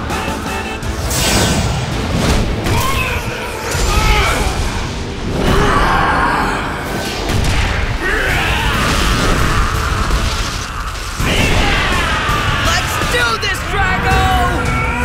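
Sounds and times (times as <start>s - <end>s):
dramatic music: 0.0s - 15.0s
booming and crashing effects: 0.8s - 14.1s.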